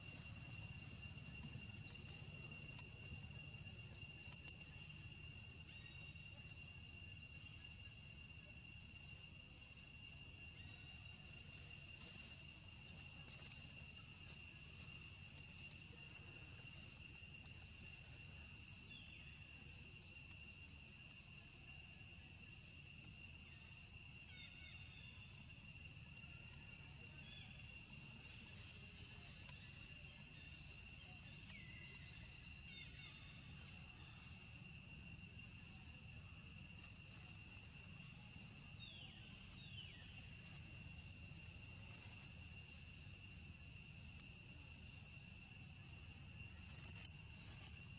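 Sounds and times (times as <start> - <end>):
high-pitched insect drone: 0.0 - 47.9.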